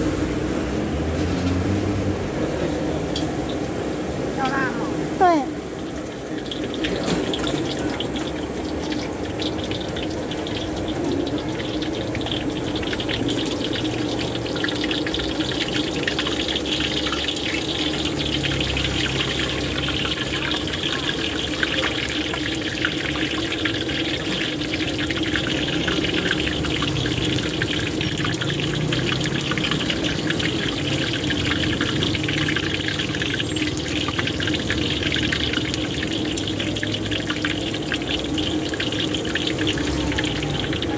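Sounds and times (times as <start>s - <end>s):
food deep-frying in oil: 0.0s - 40.9s.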